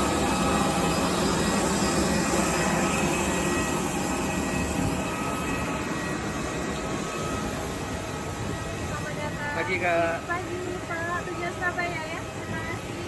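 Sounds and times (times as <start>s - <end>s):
jet engines rushing drone: 0.0s - 13.0s.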